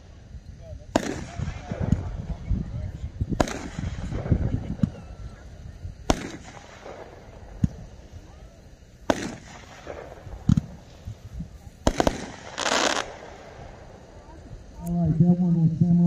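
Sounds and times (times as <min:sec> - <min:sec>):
firework bangs: 0:00.0 - 0:14.7
firework stars crackling: 0:00.0 - 0:16.0.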